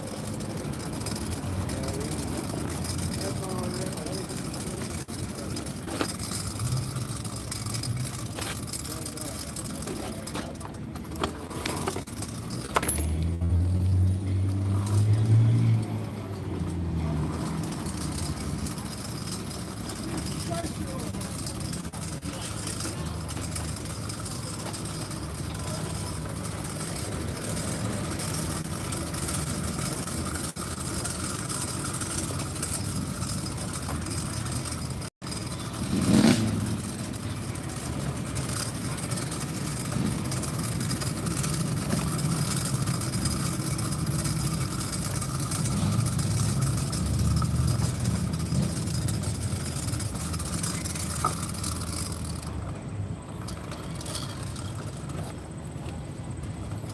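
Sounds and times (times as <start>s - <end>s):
car engines rumbling: 0.0s - 56.9s.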